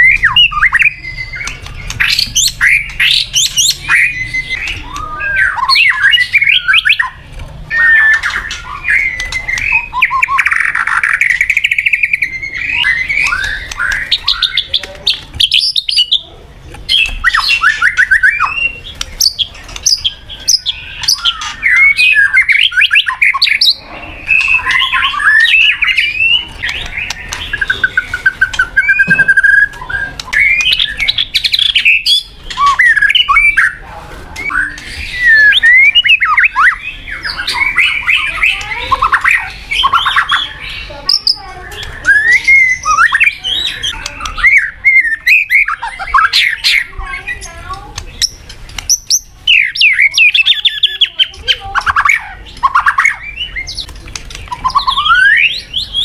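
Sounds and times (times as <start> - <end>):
bird singing whistles and trills: 0.0 - 16.3, 16.9 - 33.8, 34.4 - 47.5, 48.2 - 56.0.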